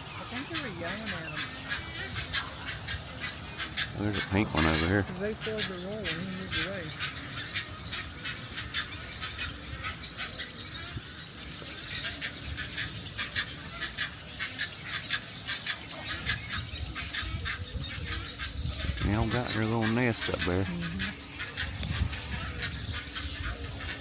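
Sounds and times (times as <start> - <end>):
colony of birds chattering: 0.0 - 24.0.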